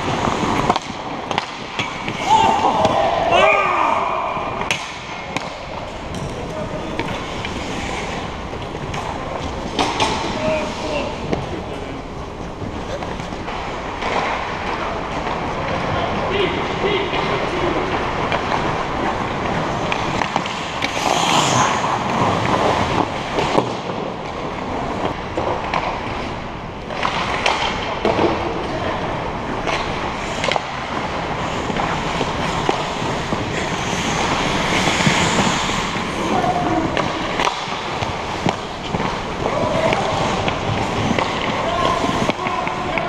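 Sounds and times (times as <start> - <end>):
hockey sticks and puck clacking: 0.0 - 43.0
skate blades scraping ice: 0.0 - 43.0.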